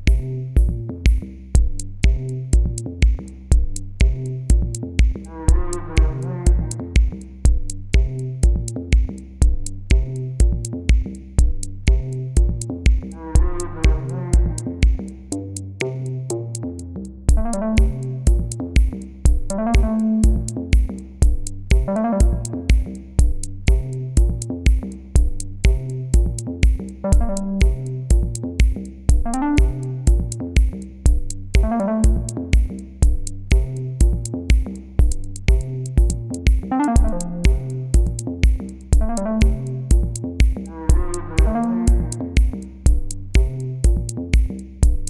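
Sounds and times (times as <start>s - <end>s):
electronic music with steady beat: 0.0s - 45.0s.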